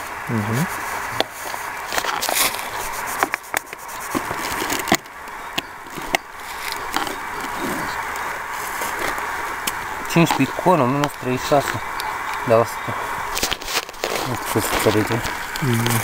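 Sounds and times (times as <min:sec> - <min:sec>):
steady hiss: 0:00.0 - 0:16.0
handling dry leaves and twigs: 0:00.6 - 0:16.0.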